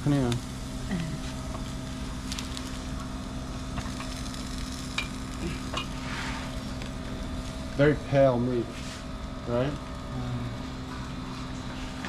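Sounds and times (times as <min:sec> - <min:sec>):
food sizzling on grill: 0:00.0 - 0:12.0
low hum: 0:00.0 - 0:12.0
faint crackles: 0:00.1 - 0:12.0.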